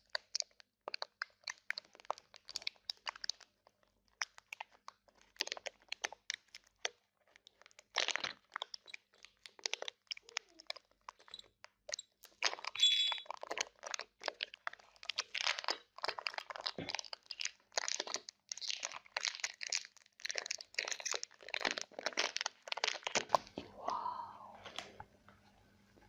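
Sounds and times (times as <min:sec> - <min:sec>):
chocolate crunching being chewed: 0:00.0 - 0:23.6.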